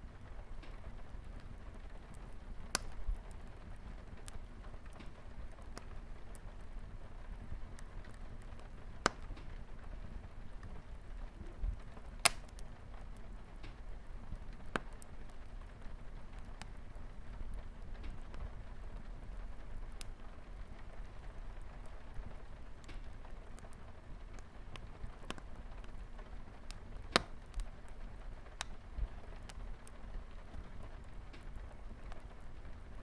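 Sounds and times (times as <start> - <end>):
wood fire crackling: 0.0 - 33.0
rain on a window: 0.1 - 33.0.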